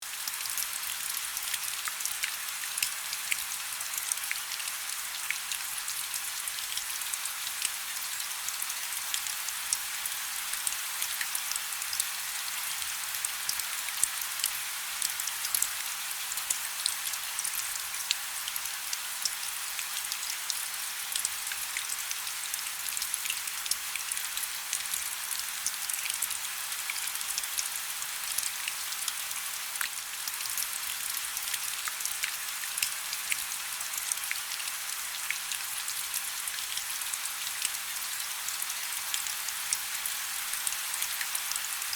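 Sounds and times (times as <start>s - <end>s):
soft rain: 0.0s - 41.9s.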